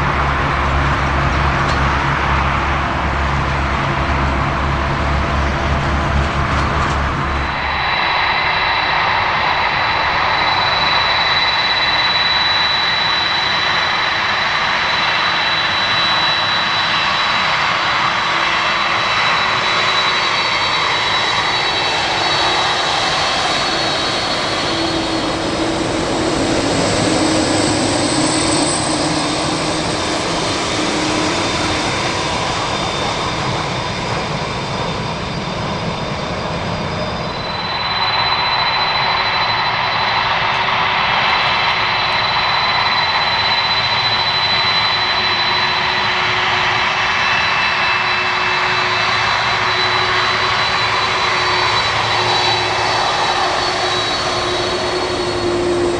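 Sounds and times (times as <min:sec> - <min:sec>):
jet engines rushing and whining: 0:00.0 - 0:55.9.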